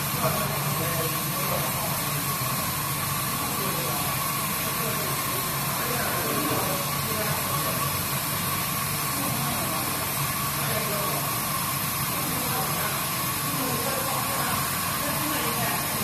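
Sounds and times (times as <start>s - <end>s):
keg washing machine hissing: 0.0s - 16.0s
low mechanical hum: 0.0s - 16.0s.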